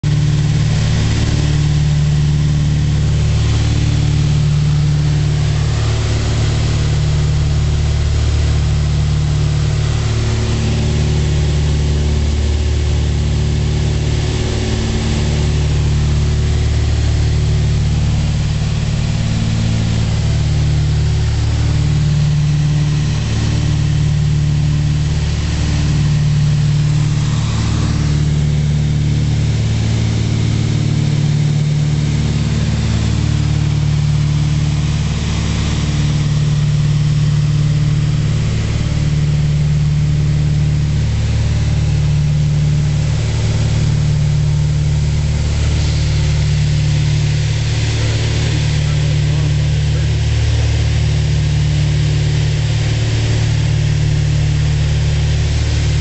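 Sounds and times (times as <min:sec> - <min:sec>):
aircraft engines and propellers droning: 0:00.1 - 0:56.0.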